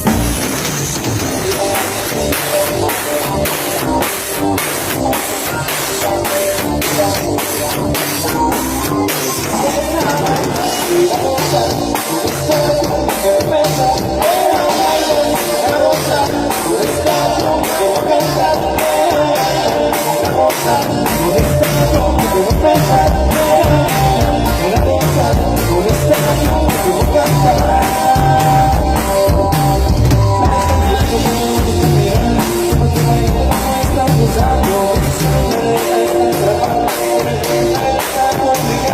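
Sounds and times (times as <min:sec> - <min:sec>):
live band playing: 0:00.0 - 0:38.9
steady drumbeat: 0:00.0 - 0:38.9.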